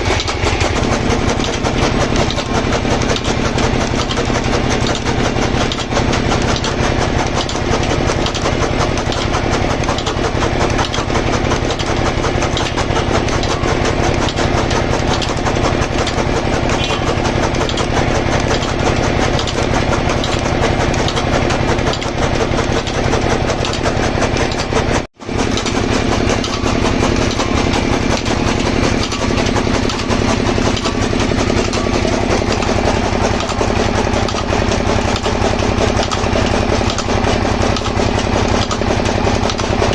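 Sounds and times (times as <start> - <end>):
engine driving chaff cutter: 0.0 - 39.9.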